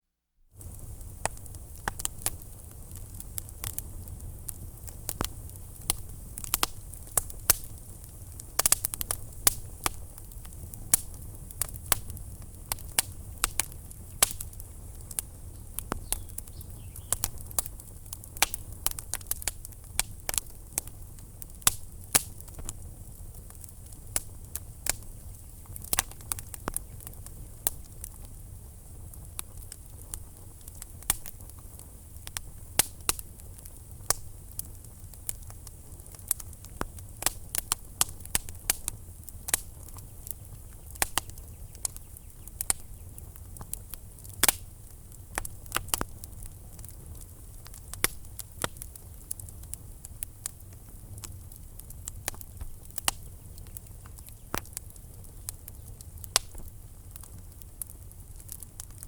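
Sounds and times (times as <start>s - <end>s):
wood fire crackling: 0.5s - 59.0s.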